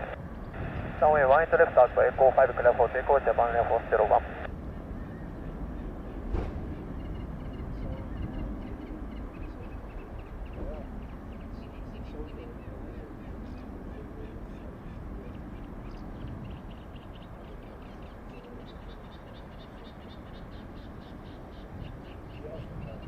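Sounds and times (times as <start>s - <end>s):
distant jet engines rumbling: 0.0s - 23.0s.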